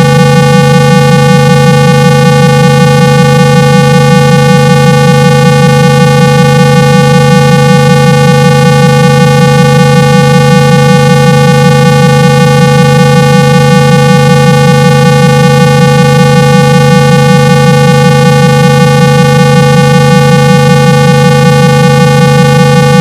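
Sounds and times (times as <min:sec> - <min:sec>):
loud buzzing tone: 0:00.0 - 0:23.0.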